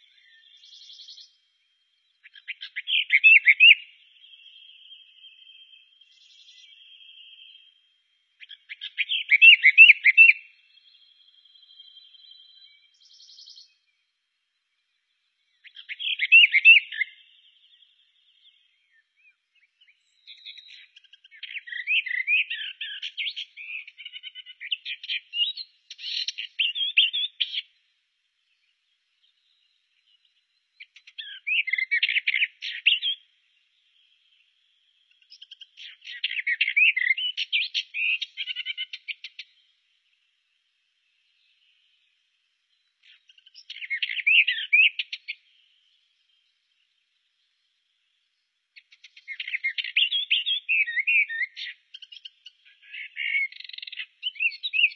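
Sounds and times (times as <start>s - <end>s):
warbler singing: 0.0s - 54.9s.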